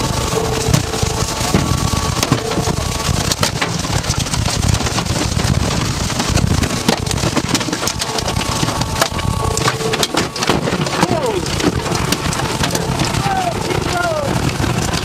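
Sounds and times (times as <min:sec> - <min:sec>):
rain and debris hitting vehicle: 0:00.0 - 0:15.0
strong wind roaring: 0:00.0 - 0:15.0.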